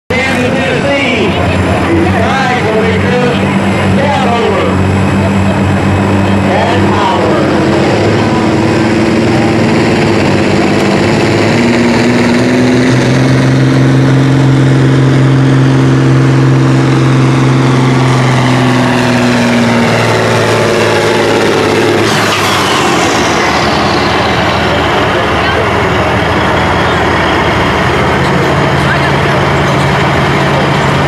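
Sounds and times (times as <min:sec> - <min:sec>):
diesel truck engine under load: 0:00.1 - 0:31.0.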